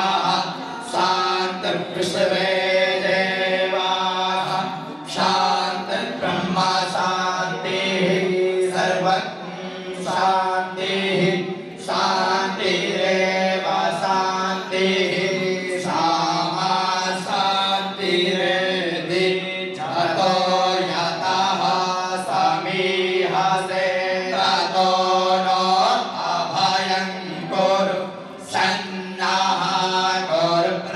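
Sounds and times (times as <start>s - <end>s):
priests chanting: 0.0s - 30.9s.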